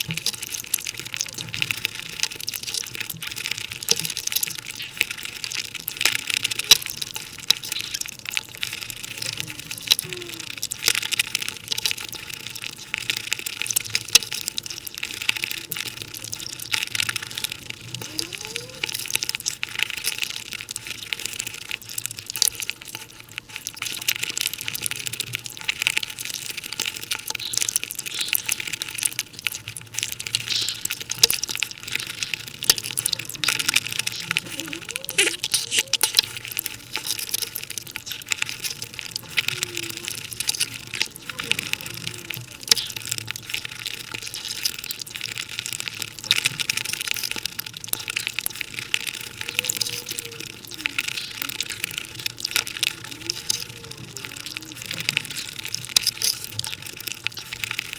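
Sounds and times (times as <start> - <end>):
sped-up chewing and mouth smacking: 0.0 - 57.9.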